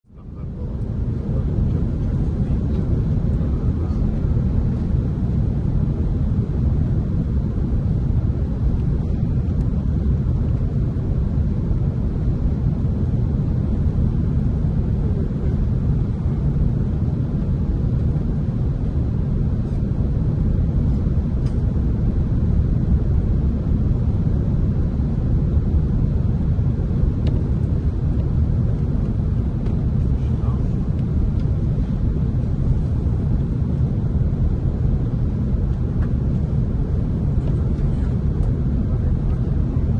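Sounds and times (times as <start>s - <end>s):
airliner cabin engine rumble: 0.1s - 39.9s.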